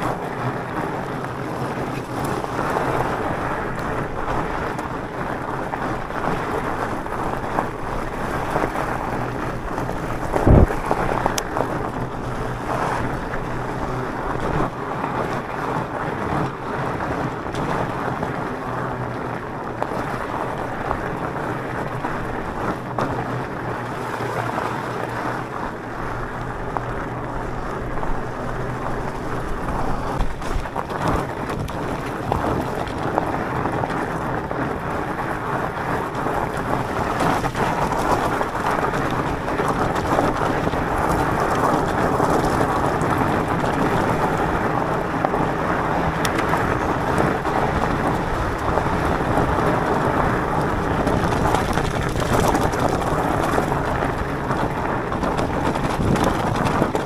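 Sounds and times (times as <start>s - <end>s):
bike tyres rolling on rough track: 0.0s - 57.0s
wind rushing over microphone: 0.0s - 57.0s.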